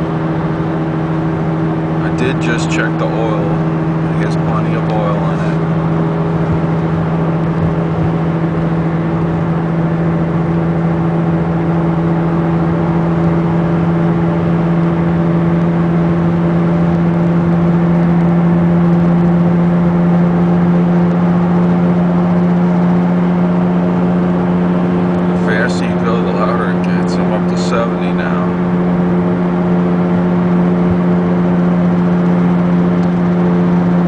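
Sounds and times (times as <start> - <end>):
engine and road noise: 0.0 - 34.0
wheel bearing drone: 0.0 - 34.0.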